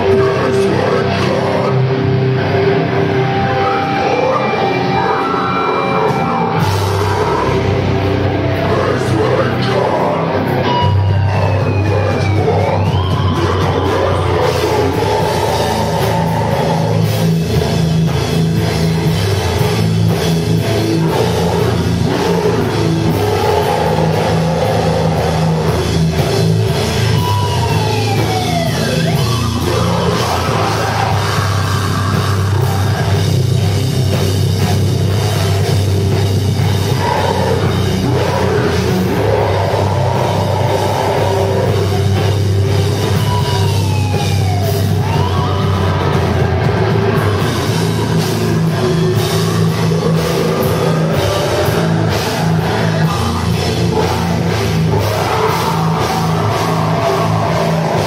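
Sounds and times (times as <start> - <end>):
deathcore band playing live: 0.0 - 58.0.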